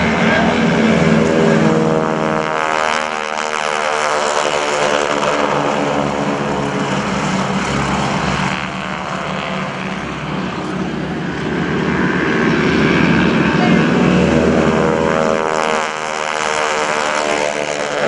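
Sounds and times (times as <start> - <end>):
propeller planes flying past: 0.0 - 18.0.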